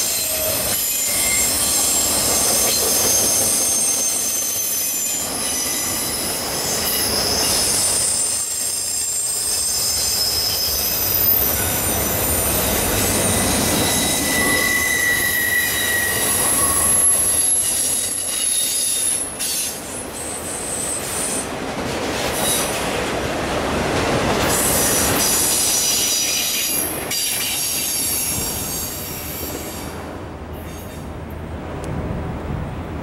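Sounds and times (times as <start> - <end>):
train wheels squealing on rails: 0.0 - 21.6, 22.2 - 22.9, 24.4 - 31.2.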